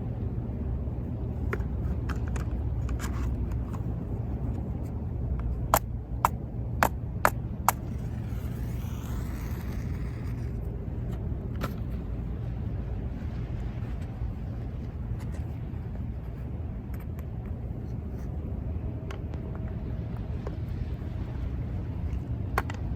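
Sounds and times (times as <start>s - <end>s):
wind: 0.0s - 22.9s.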